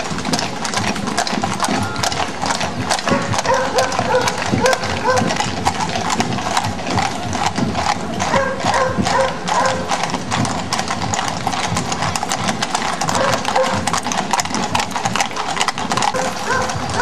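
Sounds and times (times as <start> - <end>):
horse hooves clip-clopping on asphalt: 0.0 - 17.0.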